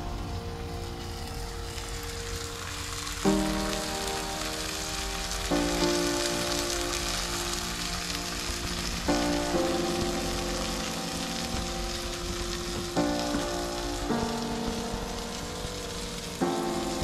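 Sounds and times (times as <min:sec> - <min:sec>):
background music of held chords: 0:00.0 - 0:17.0
fish and vegetables sizzling in a pan: 0:00.0 - 0:17.0.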